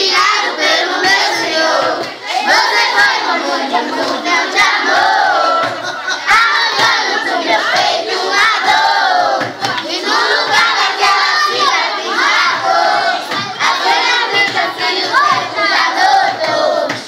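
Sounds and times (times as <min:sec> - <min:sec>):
children shouting and chattering: 0:00.0 - 0:17.0.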